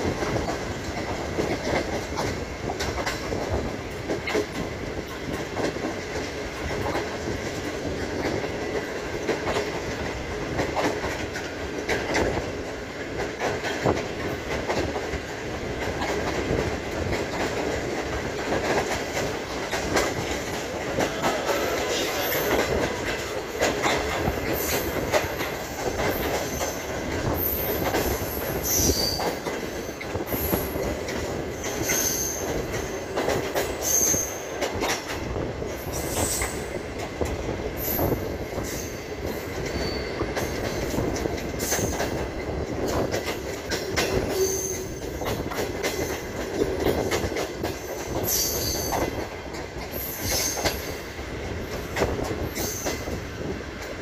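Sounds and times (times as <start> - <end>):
train wheels rumbling and clattering: 0.0 - 54.0.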